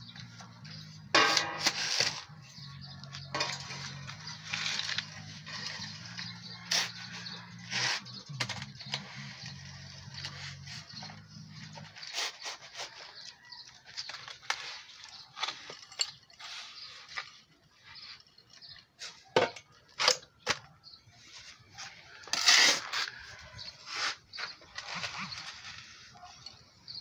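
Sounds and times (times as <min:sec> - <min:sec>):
shovel scraping on concrete: 0:00.7 - 0:13.4, 0:14.0 - 0:17.4, 0:21.3 - 0:27.0.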